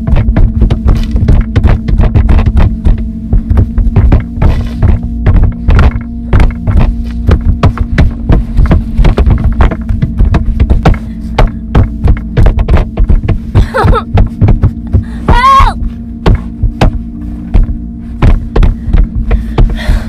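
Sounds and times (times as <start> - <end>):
rapid irregular thuds and knocks: 0.0 - 20.0
steady low hum: 0.0 - 20.0.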